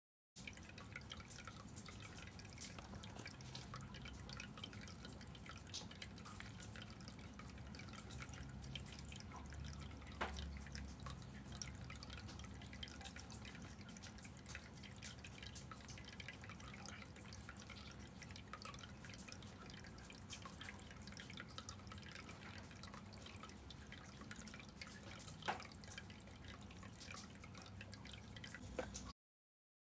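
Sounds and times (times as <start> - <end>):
fountain water trickling: 0.4 - 29.1.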